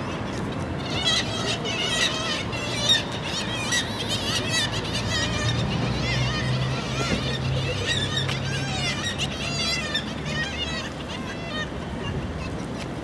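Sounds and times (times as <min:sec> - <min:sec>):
seabirds calling harshly: 0:00.0 - 0:13.0.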